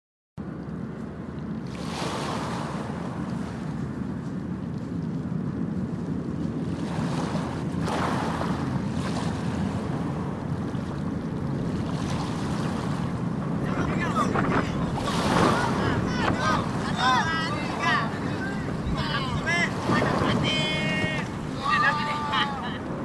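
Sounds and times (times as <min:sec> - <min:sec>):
wind rumble on microphone: 0:00.4 - 0:23.0.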